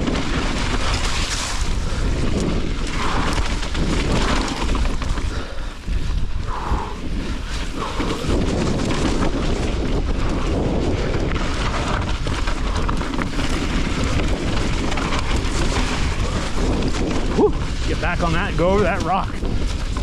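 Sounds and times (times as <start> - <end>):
bike tyre rumble on rocky trail: 0.0 - 20.0
wind buffeting microphone: 0.0 - 20.0.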